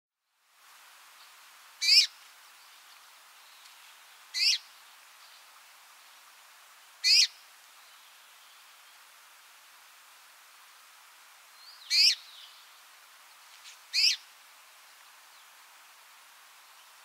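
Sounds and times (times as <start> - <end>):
faint steady hiss: 0.2 - 17.0.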